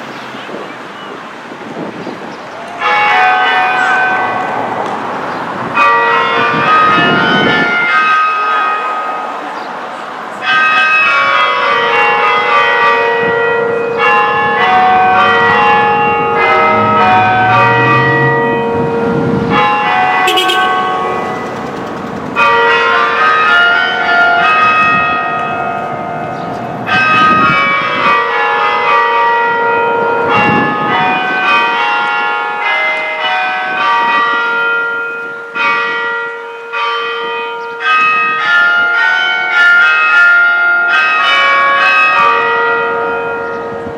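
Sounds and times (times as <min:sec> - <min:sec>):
tower bells chiming: 0:02.6 - 0:43.9.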